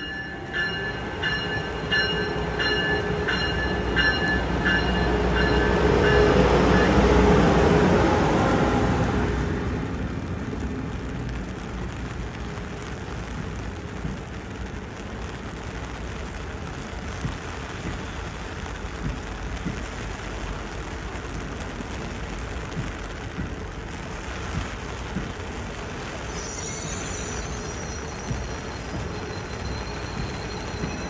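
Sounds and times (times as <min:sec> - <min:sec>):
raindrops tapping: 0:00.0 - 0:31.0
steady rain: 0:00.0 - 0:31.0
train: 0:00.0 - 0:31.0.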